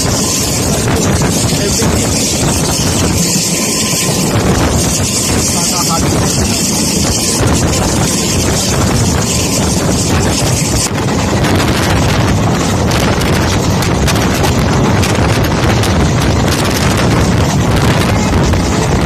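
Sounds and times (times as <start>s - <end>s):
moving train rumble: 0.0s - 19.0s
wind buffeting microphone: 0.0s - 19.0s.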